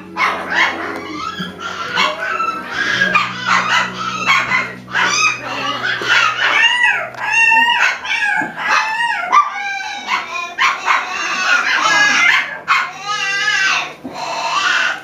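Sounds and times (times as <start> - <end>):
dogs yipping and whining: 0.0 - 15.0.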